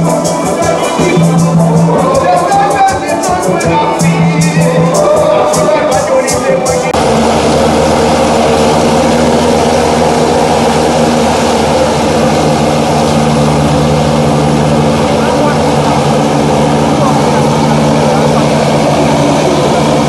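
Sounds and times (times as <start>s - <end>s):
band music: 0.0s - 20.0s
turboprop engines running: 0.0s - 20.0s.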